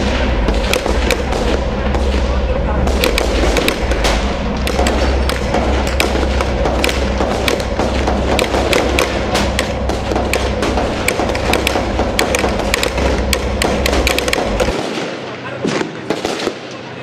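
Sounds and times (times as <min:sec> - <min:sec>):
tank engine rumbling: 0:00.0 - 0:14.8
sharp cracks and taps: 0:00.5 - 0:02.2, 0:02.9 - 0:14.8.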